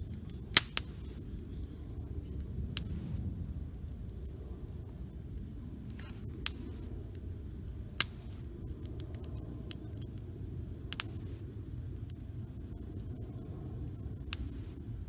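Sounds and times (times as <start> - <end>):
sharp fire pops: 0.0 - 13.2, 14.2 - 14.8
campfire crackling: 0.0 - 15.0.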